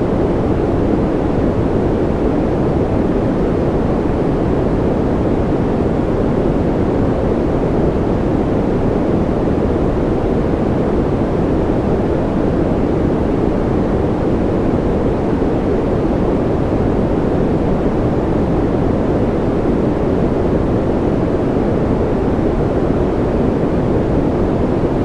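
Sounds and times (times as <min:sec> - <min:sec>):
steady white noise: 0:00.0 - 0:25.0.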